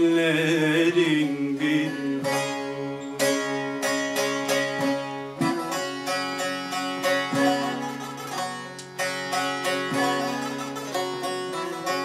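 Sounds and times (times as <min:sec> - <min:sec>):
long-necked lute picked: 0:00.0 - 0:12.0.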